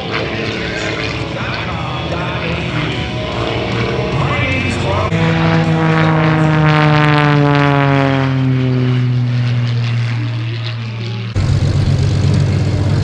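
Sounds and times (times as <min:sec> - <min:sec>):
propeller plane passing: 0:00.0 - 0:13.0
steady engine sound: 0:00.0 - 0:13.0.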